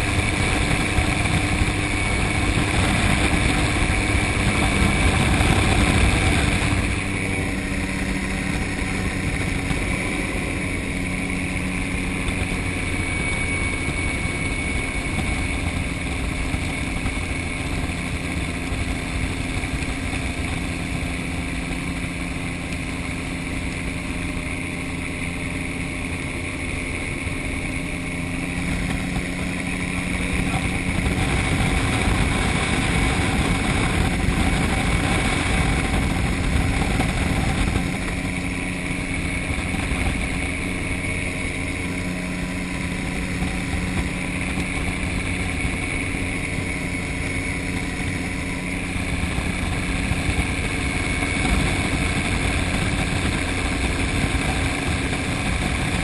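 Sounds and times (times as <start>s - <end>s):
gyrocopter engine running: 0.0s - 56.0s.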